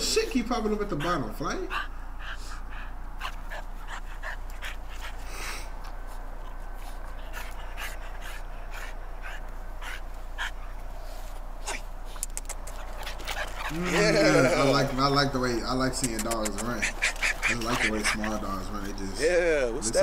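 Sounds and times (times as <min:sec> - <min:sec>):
steady low hum: 0:00.0 - 0:20.0
puppy panting: 0:00.3 - 0:19.2.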